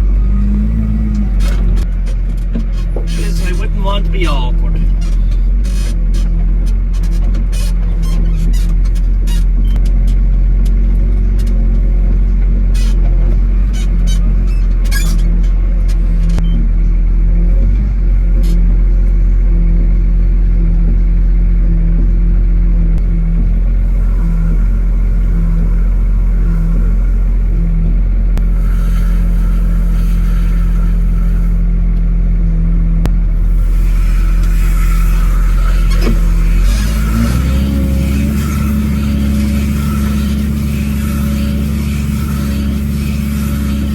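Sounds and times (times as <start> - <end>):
tractor engine droning: 0.0 - 43.9.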